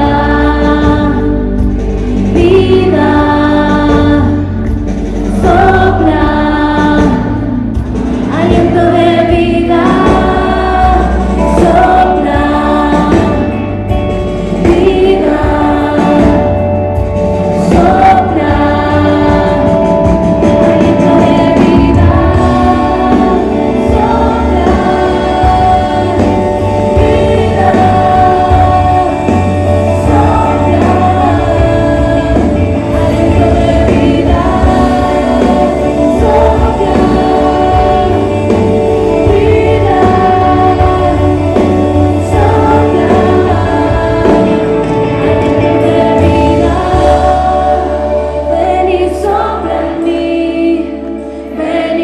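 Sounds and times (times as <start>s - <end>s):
live worship band playing: 0.0s - 52.0s
many voices singing together: 0.0s - 52.0s.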